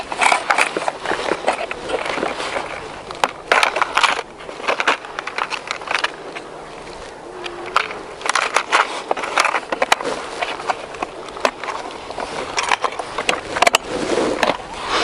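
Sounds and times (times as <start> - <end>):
plastic box clicks and rattles: 0.0 - 6.5, 7.4 - 14.6.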